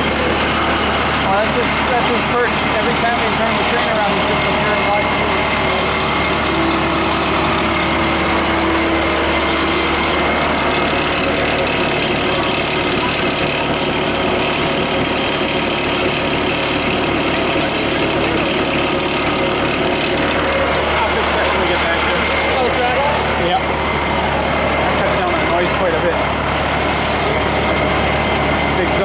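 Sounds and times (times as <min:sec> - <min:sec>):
miniature locomotive engine droning: 0:00.0 - 0:29.0.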